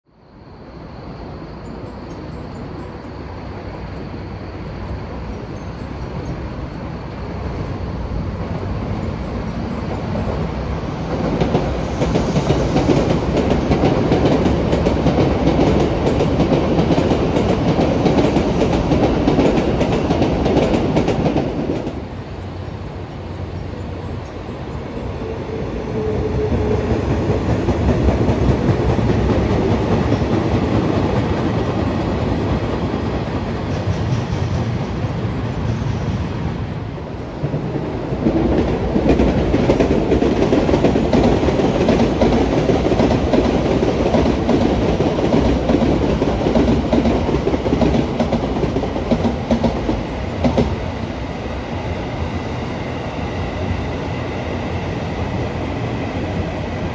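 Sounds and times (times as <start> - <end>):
train running on rails: 0.1 - 56.9.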